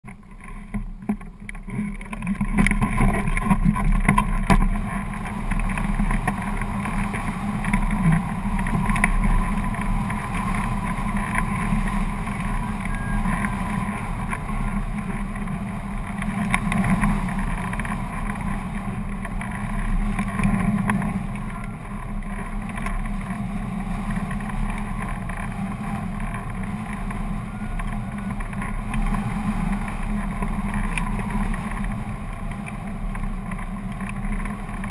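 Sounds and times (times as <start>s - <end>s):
wind rushing on microphone: 0.2s - 34.9s.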